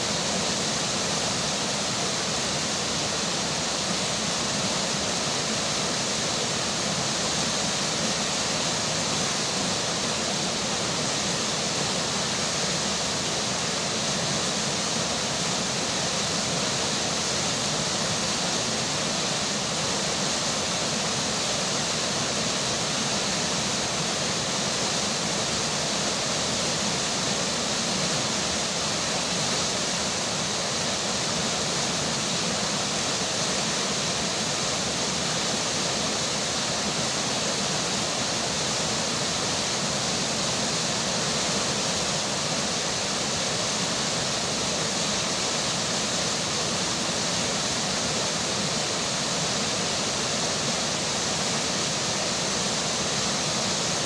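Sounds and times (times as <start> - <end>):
flowing river water: 0.0 - 54.0.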